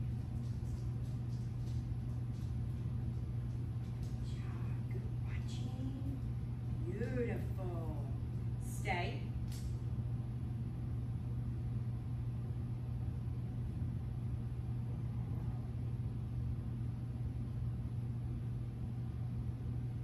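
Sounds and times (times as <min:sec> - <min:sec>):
ceiling fans and ventilation hum: 0:00.0 - 0:20.0.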